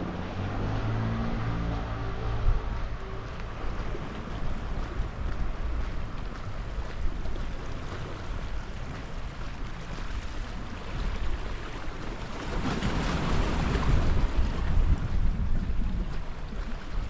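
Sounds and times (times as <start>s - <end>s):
sea waves on shore: 0.0s - 17.0s
wind buffeting microphone: 0.0s - 17.0s.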